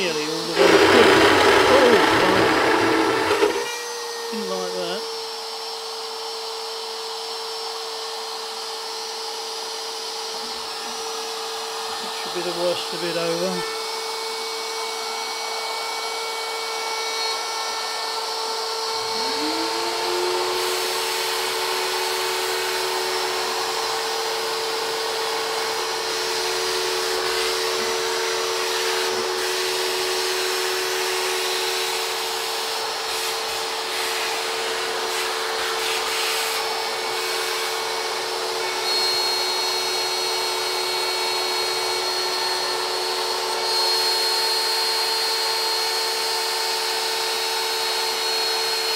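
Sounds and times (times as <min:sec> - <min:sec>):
cnc router spindle whining: 0:00.0 - 0:48.9
shop vacuum running: 0:00.0 - 0:48.9.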